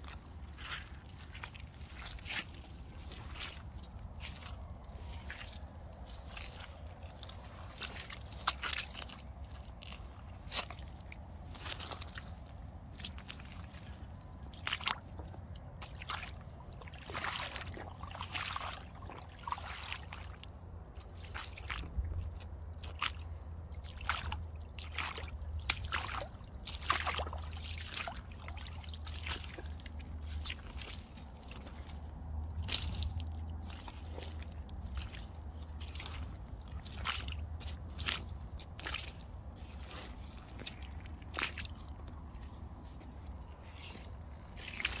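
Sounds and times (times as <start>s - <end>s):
rubber boots squelching in mud: 0.0s - 45.0s.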